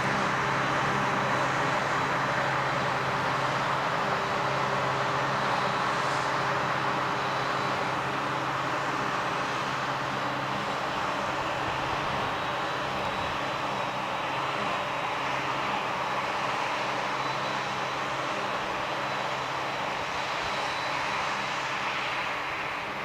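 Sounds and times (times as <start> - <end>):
tractor diesel engine droning: 0.0 - 23.0.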